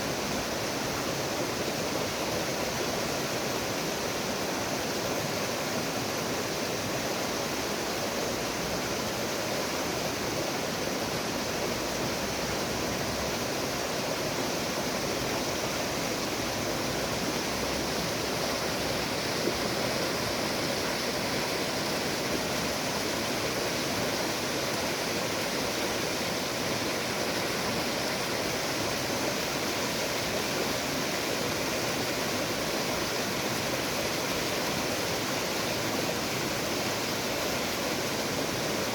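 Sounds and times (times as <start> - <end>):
flowing river water: 0.0 - 38.9.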